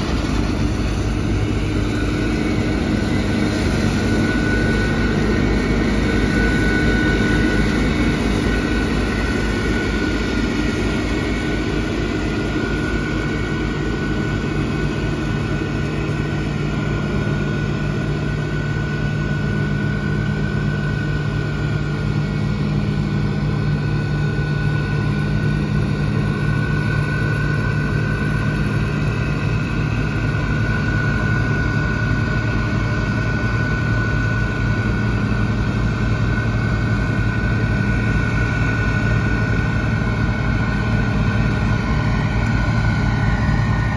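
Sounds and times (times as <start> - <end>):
diesel engine running: 0.0 - 43.9
thin high whine: 0.0 - 43.9.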